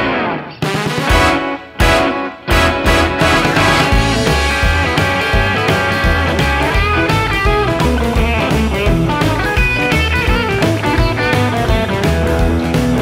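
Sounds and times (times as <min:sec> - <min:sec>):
guitar instrumental music: 0:00.0 - 0:13.0
steady bass beat: 0:01.1 - 0:13.0.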